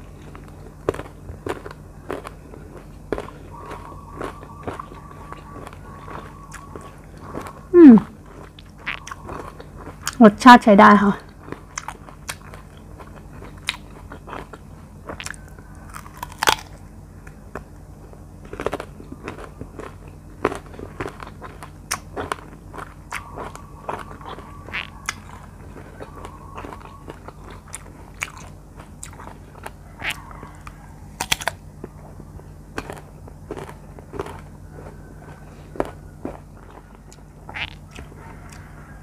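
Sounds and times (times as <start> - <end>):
biting and chewing mango: 0.0 - 10.4, 11.2 - 39.0.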